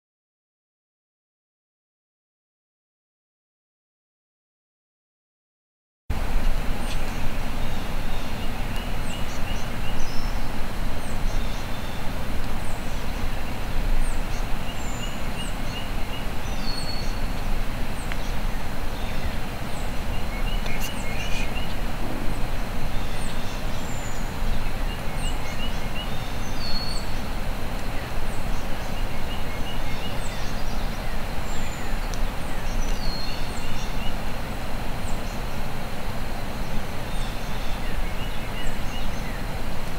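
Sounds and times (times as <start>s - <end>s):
songbirds chirping: 6.1s - 39.9s
steady hiss: 6.1s - 39.9s.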